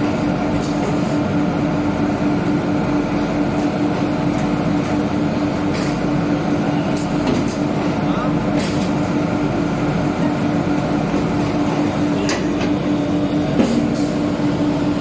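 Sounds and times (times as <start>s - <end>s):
continuous mechanical noise: 0.0s - 15.0s
baling machine humming: 2.0s - 15.0s.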